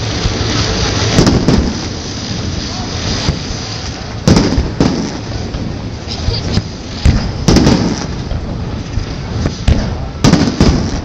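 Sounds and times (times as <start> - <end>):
fireworks bursting with echoing bangs: 0.0 - 11.0
steady background noise: 0.0 - 11.0.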